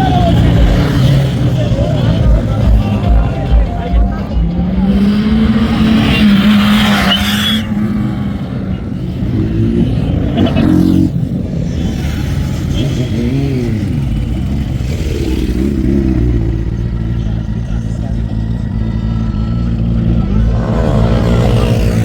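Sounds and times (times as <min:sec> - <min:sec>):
motorcycle engines revving: 0:00.0 - 0:22.0
tyres skidding: 0:00.0 - 0:22.0.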